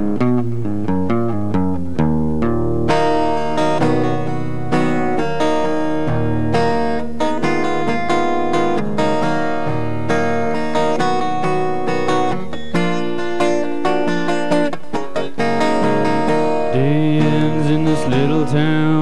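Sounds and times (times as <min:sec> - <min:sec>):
acoustic guitars strumming: 0:00.0 - 0:19.0.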